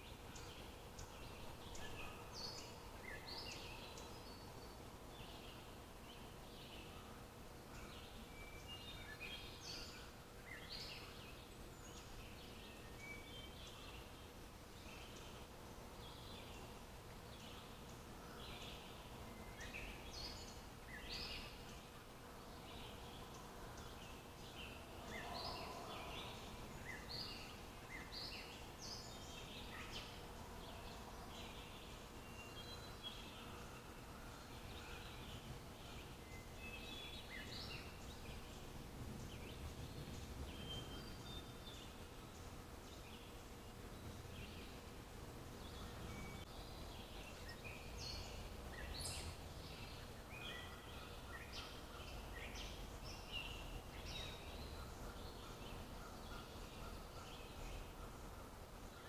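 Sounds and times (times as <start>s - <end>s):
birds chirping and trilling: 0.0s - 59.0s
faint background hiss: 0.0s - 59.0s
faint steady hum: 0.0s - 59.0s.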